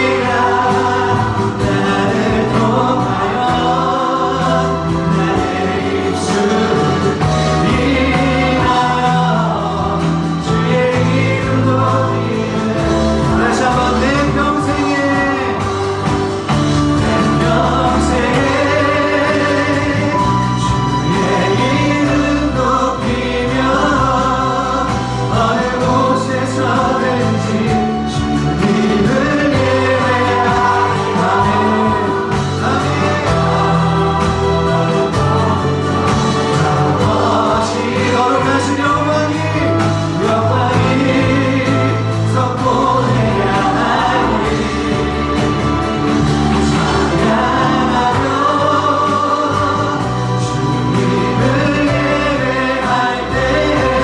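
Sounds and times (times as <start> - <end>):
group singing worship song: 0.0 - 54.0
instrumental accompaniment: 0.0 - 54.0
sustained bass notes: 0.0 - 54.0.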